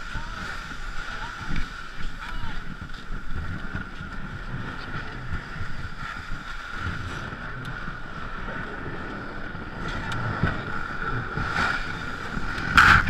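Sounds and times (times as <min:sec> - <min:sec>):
canoe hull scraping over snow: 0:00.0 - 0:13.0
wind buffeting microphone: 0:00.0 - 0:13.0.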